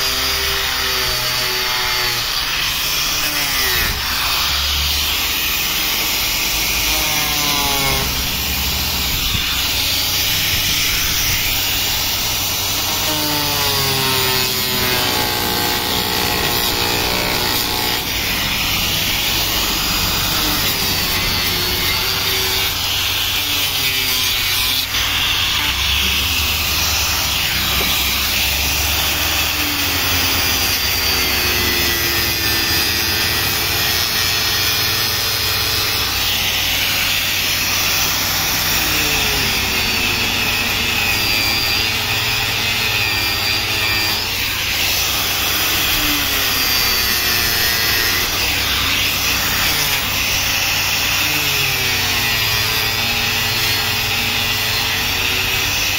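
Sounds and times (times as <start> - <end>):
angle grinder grinding wood: 0.0 - 55.9.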